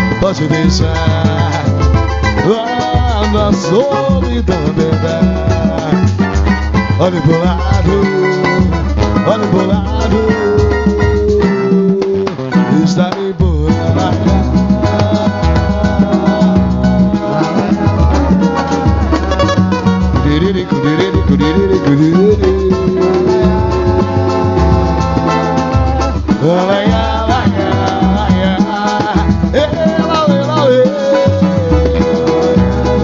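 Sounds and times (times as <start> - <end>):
samba percussion beat: 0.0 - 33.0
sliding melody line: 0.0 - 33.0.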